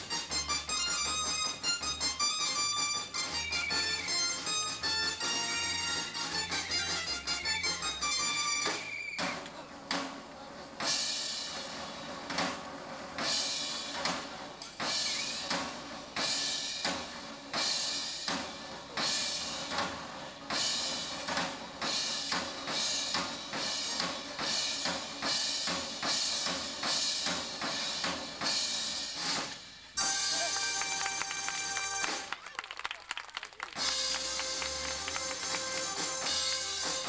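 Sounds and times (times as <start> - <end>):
drum kit beat: 0.0 - 32.3, 33.7 - 37.0.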